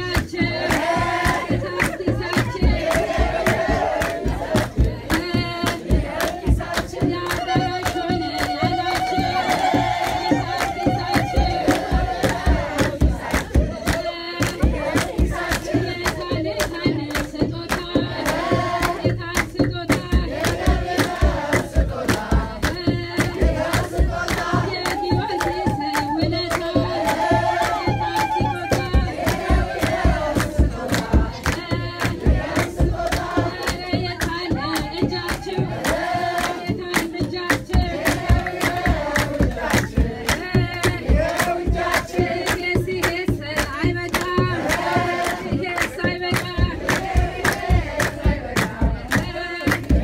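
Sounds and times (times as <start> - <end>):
drum beating steady rhythm: 0.0 - 50.0
hand clapping: 0.0 - 50.0
women singing a hymn: 0.0 - 50.0.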